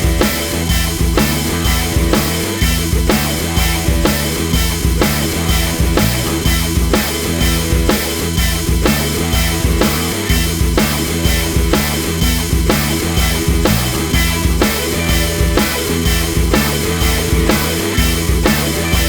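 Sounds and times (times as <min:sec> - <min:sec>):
rock music with drums and bass: 0:00.0 - 0:19.0.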